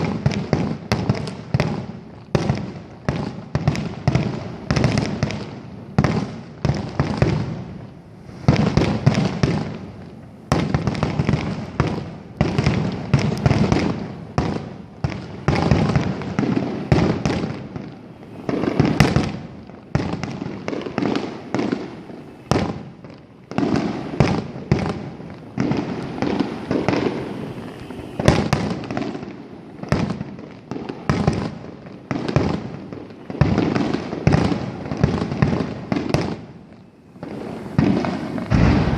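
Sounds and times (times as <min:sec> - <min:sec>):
fireworks bursting: 0:00.0 - 0:38.9
fireworks crackling: 0:00.0 - 0:38.9.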